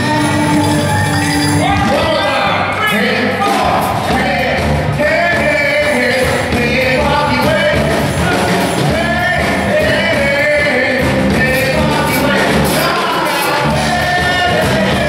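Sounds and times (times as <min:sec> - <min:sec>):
funk band playing: 0:00.0 - 0:15.0
person singing: 0:00.0 - 0:15.0.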